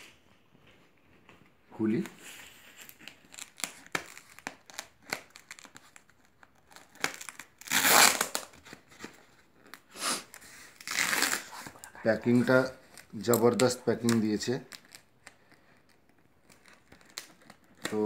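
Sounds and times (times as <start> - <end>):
crinkling tearing rips: 1.9 - 18.0.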